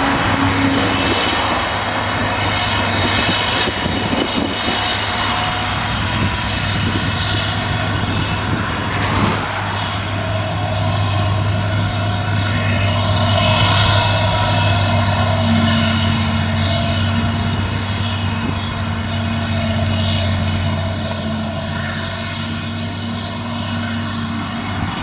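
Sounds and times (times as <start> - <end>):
forage harvester drone: 0.0 - 25.0
tractor engine running: 0.0 - 25.0.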